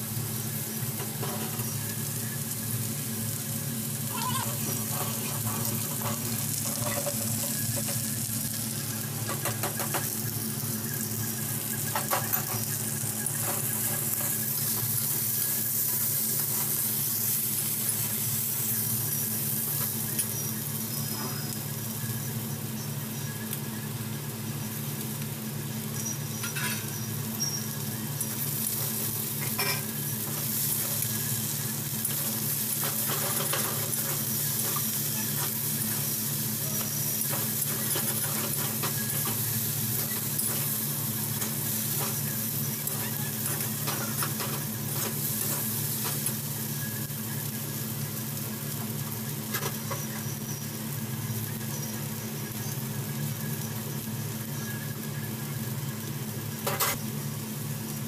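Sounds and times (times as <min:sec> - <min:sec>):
potato sticks sizzling in a pan: 0:00.0 - 0:58.0.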